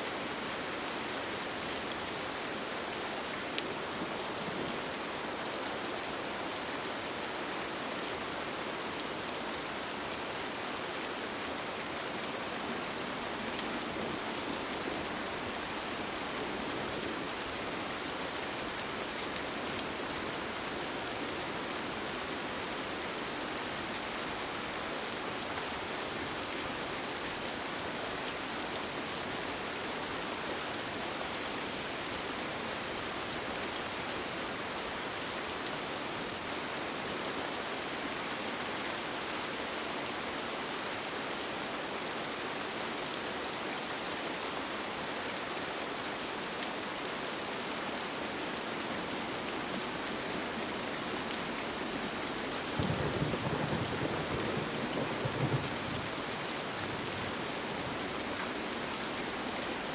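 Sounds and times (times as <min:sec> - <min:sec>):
rain on a tent: 0:00.0 - 0:59.9.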